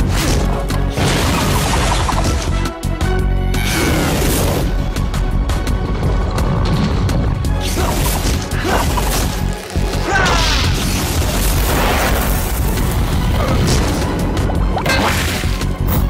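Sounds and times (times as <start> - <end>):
cartoon action music: 0.0 - 16.0.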